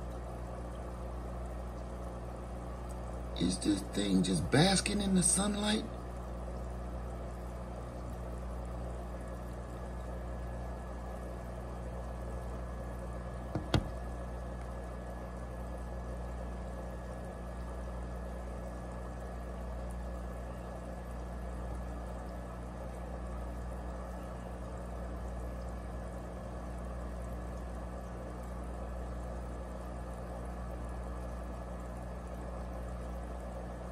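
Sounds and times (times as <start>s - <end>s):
low hum: 0.0s - 33.9s.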